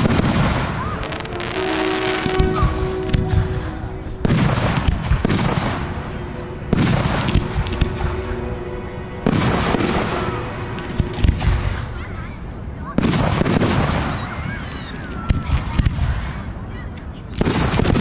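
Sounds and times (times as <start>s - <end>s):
fireworks booming: 0.0s - 12.2s, 12.9s - 16.4s
sharp fireworks reports: 0.0s - 18.0s.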